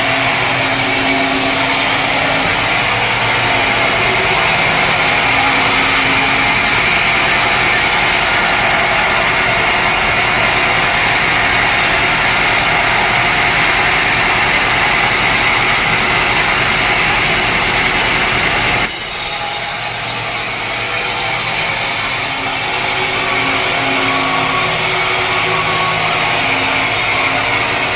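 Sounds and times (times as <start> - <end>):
saw cutting through log: 0.0 - 27.9
sawmill machinery running: 0.0 - 27.9.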